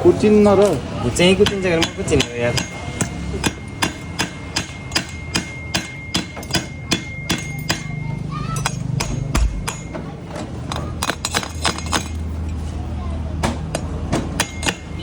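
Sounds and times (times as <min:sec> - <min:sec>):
hammer on metal exhaust: 0:01.2 - 0:12.2, 0:13.7 - 0:15.0.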